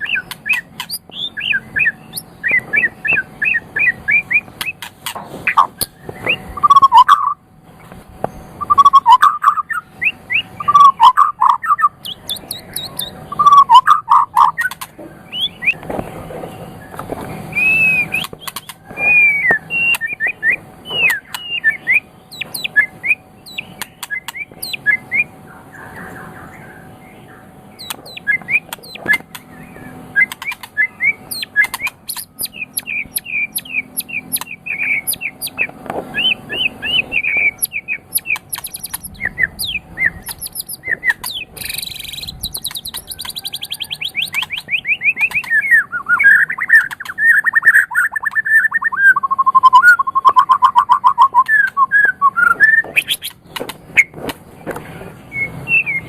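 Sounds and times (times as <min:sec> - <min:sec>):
songbird singing whistled notes: 0:00.0 - 0:04.9, 0:05.5 - 0:07.4, 0:08.2 - 0:15.9, 0:16.6 - 0:54.2, 0:55.2 - 0:56.0.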